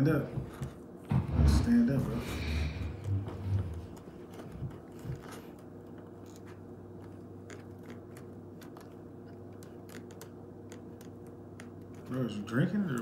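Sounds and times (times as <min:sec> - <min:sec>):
low hum: 0:00.4 - 0:12.1.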